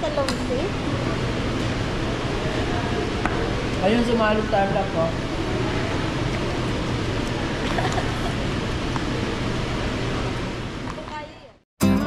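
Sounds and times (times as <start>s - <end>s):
restaurant background noise: 0.0s - 11.6s.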